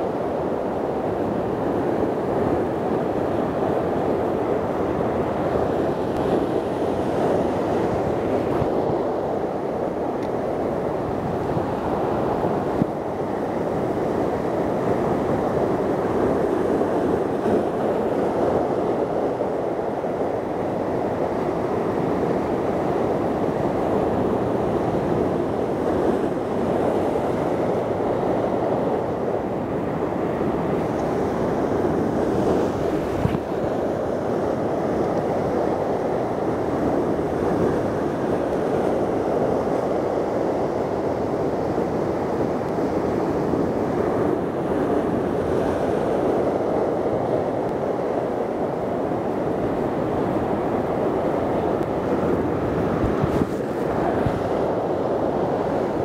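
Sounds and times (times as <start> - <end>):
sea surf breaking over rocks: 0.0 - 56.0.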